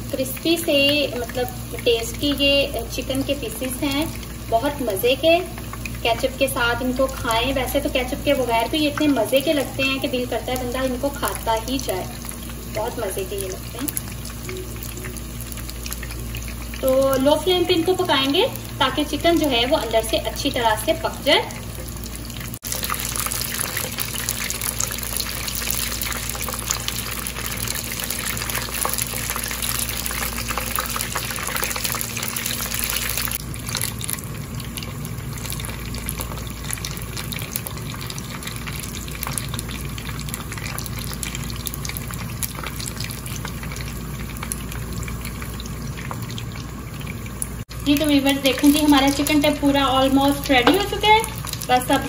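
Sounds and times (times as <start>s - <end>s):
chicken sizzling in oil: 0.0s - 52.0s.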